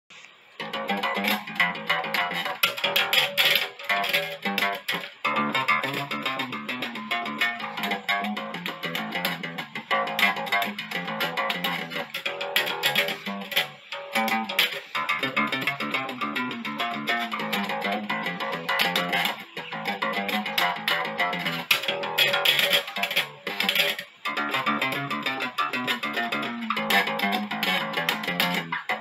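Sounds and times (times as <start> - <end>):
electric bass guitar runs: 0.6 - 29.0.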